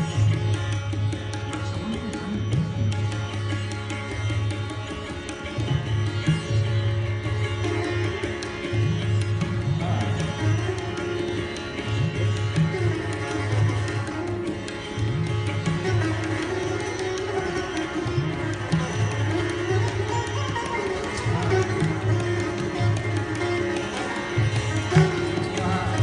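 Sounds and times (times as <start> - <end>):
crisp high tabla strokes: 0.0 - 26.0
sitar plucked melody: 0.0 - 26.0.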